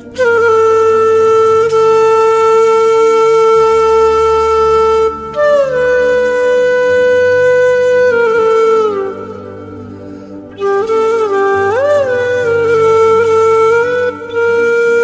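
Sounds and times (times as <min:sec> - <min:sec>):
low drone: 0:00.0 - 0:15.0
wind instrument long notes: 0:00.0 - 0:15.0.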